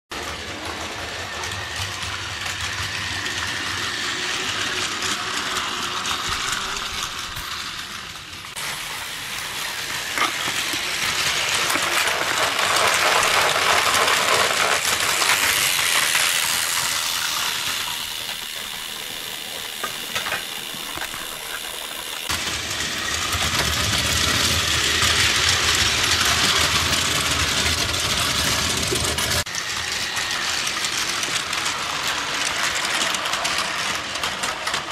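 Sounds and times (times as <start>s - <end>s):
wheels rattling on plastic rails: 0.1s - 34.9s
toy train motor whirring: 0.2s - 34.9s.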